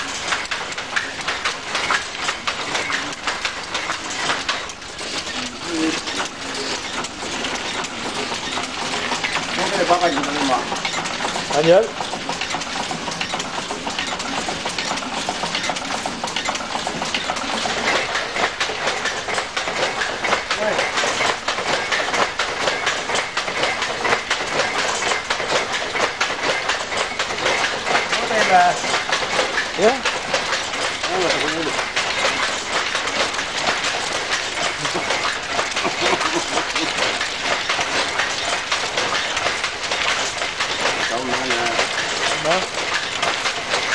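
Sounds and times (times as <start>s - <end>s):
loom clattering: 0.0s - 43.9s.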